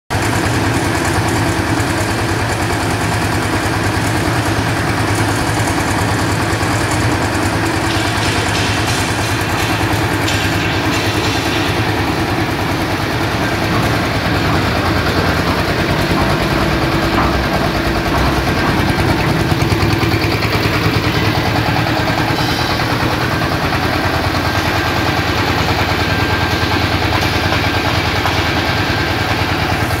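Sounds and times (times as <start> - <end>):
concrete mixer engine running: 0.1 - 30.0.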